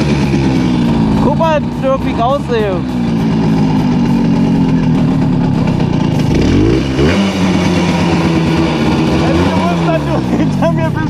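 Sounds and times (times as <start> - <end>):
two-stroke moped engine revving: 0.0 - 11.0.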